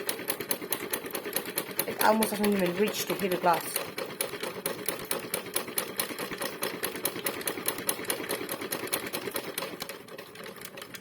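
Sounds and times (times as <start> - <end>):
toy washing machine clattering: 0.0 - 11.0.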